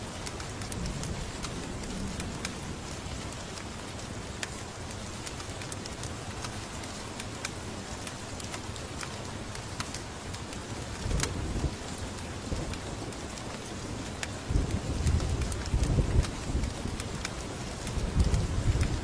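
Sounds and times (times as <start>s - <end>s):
rain hiss: 0.0s - 19.0s
wood fire crackling: 0.0s - 19.0s.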